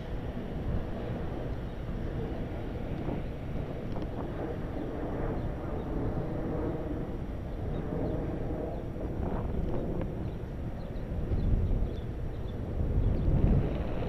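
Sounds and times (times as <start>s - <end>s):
bicycle tyres rolling on asphalt: 0.0s - 14.0s
wind buffeting microphone: 0.0s - 14.0s.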